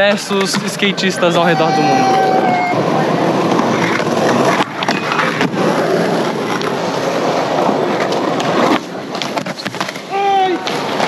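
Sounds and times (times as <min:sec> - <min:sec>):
skateboard wheels rolling on concrete: 0:00.0 - 0:11.0
skateboard clacks: 0:00.1 - 0:00.9, 0:02.1 - 0:11.0.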